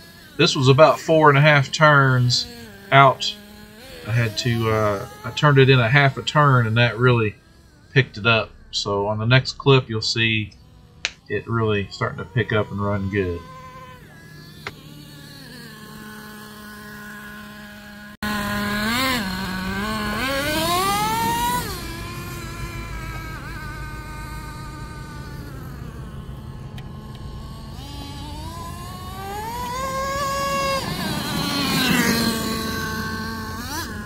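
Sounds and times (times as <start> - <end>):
small two-stroke engine revving: 0.0 - 34.0.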